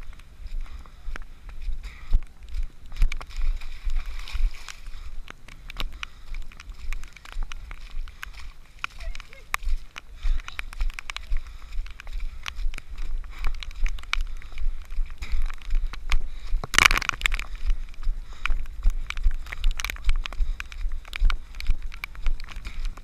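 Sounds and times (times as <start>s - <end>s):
footsteps splashing through mud: 0.0s - 23.0s.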